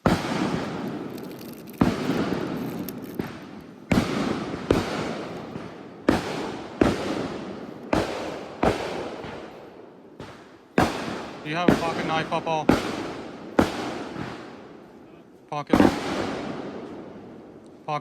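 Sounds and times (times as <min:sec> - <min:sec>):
fireworks crackle: 0:00.0 - 0:14.7
fireworks bangs: 0:00.0 - 0:18.0.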